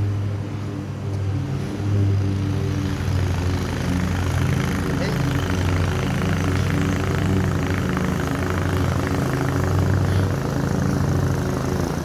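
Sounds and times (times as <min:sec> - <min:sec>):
lawn mower engine running: 0:01.3 - 0:12.0.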